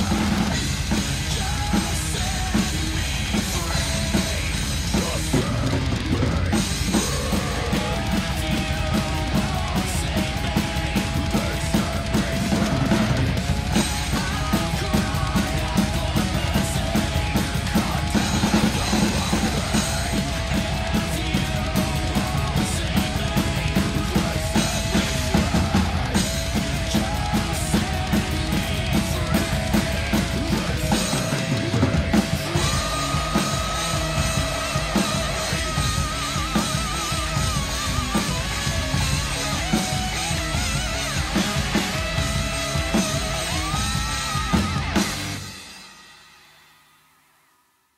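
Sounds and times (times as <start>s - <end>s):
heavy rock music with guitars: 0.0s - 46.4s
drum kit playing: 0.0s - 46.8s.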